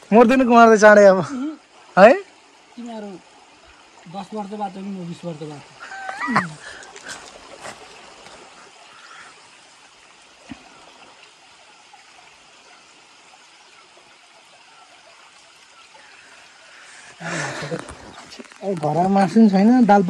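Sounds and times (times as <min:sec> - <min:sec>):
stream trickling over rocks: 0:00.0 - 0:20.0.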